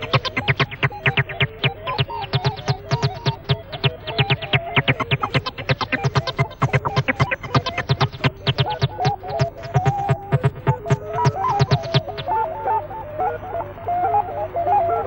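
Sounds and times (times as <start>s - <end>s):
electronic dance music: 0.0s - 12.3s.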